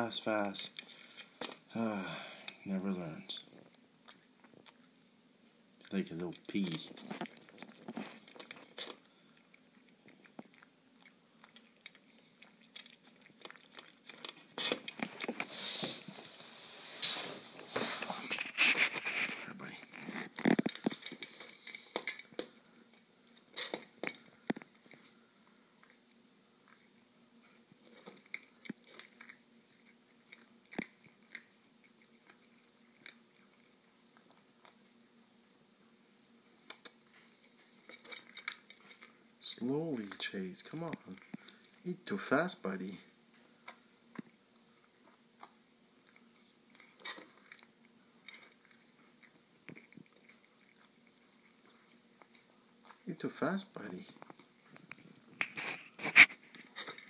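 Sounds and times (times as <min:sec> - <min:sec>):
cat chewing and crunching food: 0:00.0 - 0:57.0.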